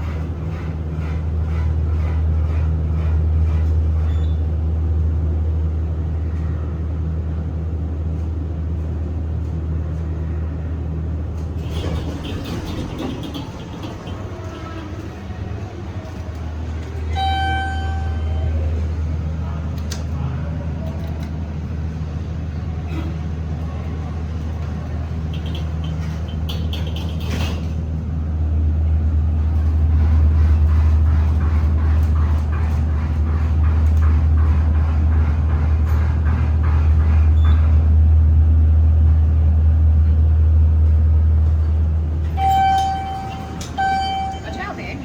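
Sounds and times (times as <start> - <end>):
elevator hydraulic pump humming: 0.0 - 6.0, 11.1 - 45.0.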